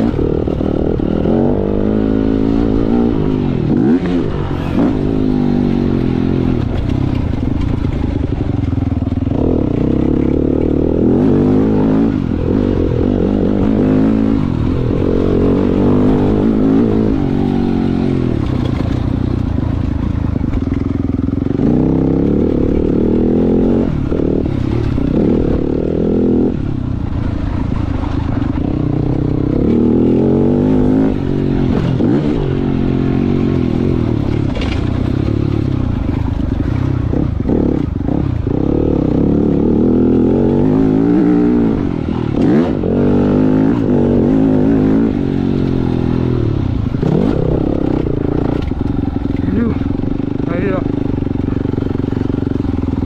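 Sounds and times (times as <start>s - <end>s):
motocross bike engine revving: 0.0s - 19.7s, 20.4s - 53.0s.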